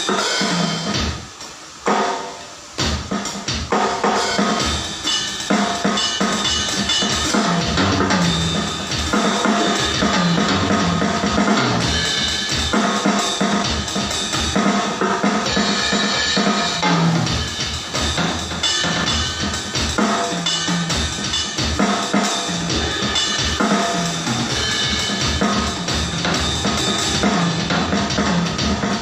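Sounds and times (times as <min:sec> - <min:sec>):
ringing cymbals: 0:00.0 - 0:28.9
drum kit playing: 0:00.0 - 0:29.0.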